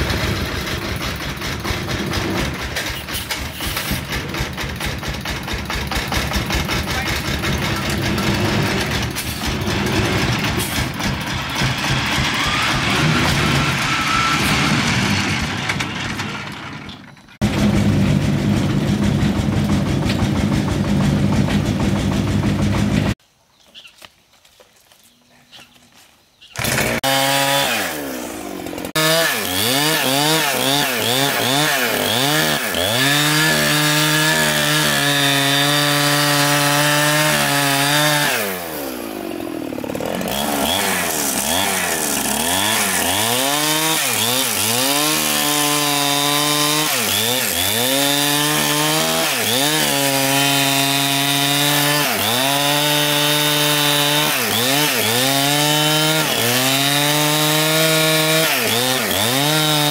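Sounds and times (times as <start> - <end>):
chainsaw cutting wood: 0.0 - 23.2, 26.6 - 59.9.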